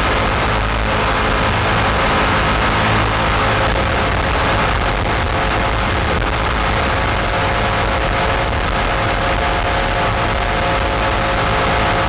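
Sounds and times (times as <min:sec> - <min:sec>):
jet boat engine running hard: 0:00.0 - 0:12.0.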